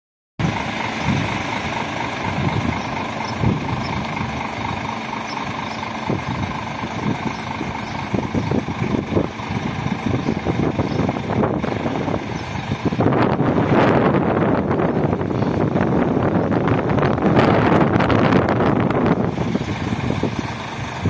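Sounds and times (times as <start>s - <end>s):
diesel engine idling: 0.4s - 21.0s
wind buffeting microphone: 0.4s - 21.0s.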